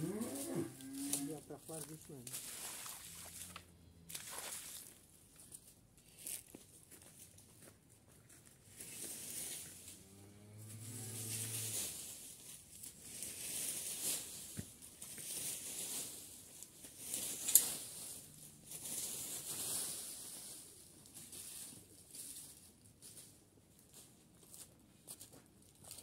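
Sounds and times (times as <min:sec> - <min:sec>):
rake dragged through dry leaves: 0:00.0 - 0:06.5, 0:08.7 - 0:24.6.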